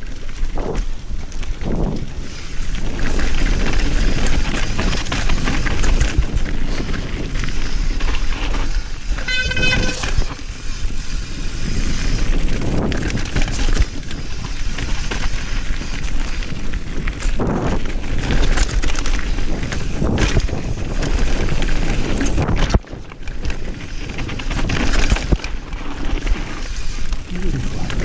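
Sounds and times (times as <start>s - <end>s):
bike rattling and knocking: 0.0s - 28.0s
tyres on dirt and rock: 0.0s - 28.0s
wind rushing over microphone: 0.0s - 28.0s.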